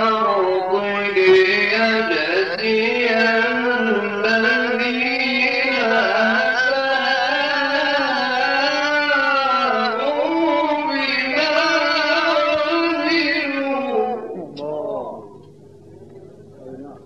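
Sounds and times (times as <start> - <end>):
man reciting melodically: 0.0 - 15.4.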